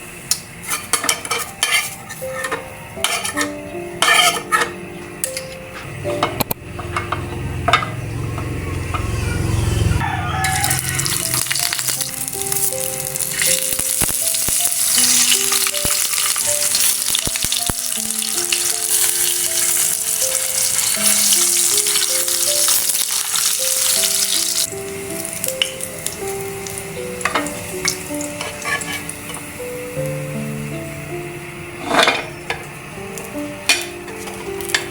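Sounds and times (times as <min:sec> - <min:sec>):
food frying and sizzling: 0:00.0 - 0:34.9.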